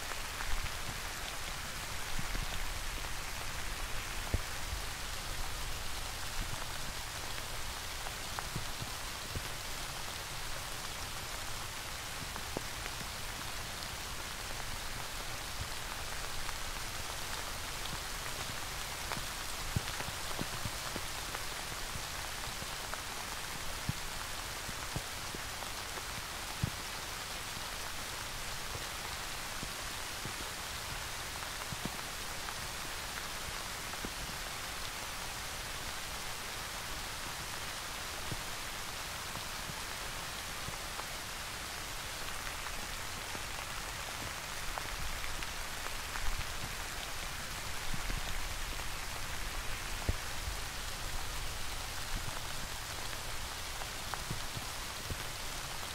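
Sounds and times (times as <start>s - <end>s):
raindrops landing close by: 0.0s - 55.9s
steady rain hiss: 0.0s - 55.9s.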